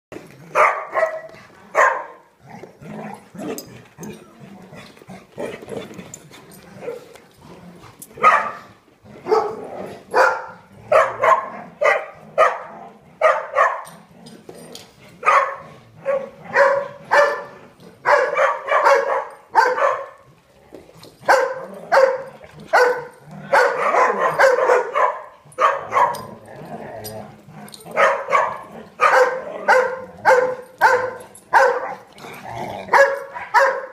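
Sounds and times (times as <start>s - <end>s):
dogs barking and yipping: 0.5s - 2.4s, 5.0s - 7.4s, 8.0s - 33.9s.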